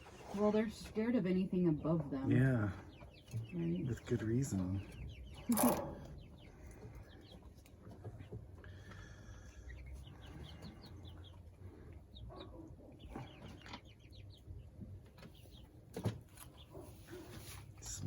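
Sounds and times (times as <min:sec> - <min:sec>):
chicks peeping and chirping: 0:00.0 - 0:18.0.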